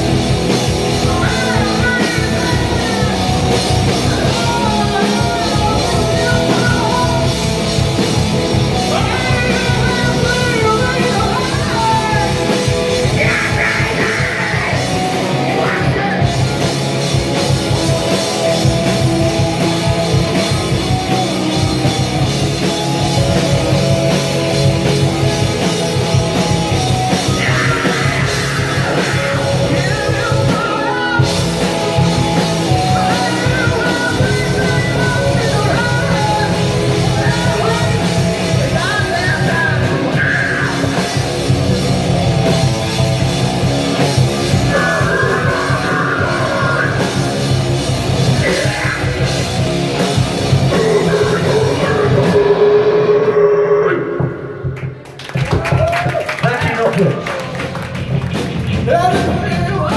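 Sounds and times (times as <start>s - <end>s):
singer singing and shouting: 0.0s - 55.0s, 58.7s - 59.9s
heavy rock band playing: 0.0s - 59.9s.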